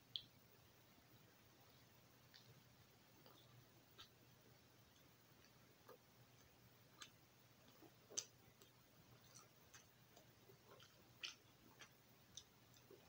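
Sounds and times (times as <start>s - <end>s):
person chewing bread: 1.6s - 4.2s, 4.8s - 13.0s.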